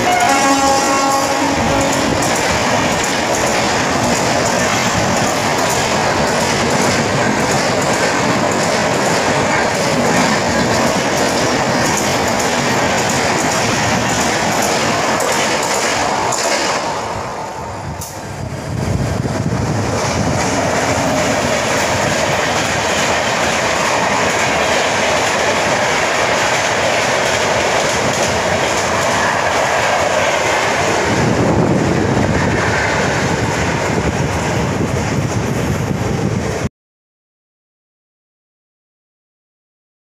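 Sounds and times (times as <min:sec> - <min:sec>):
train wheels rumbling on rails: 0:00.0 - 0:36.7.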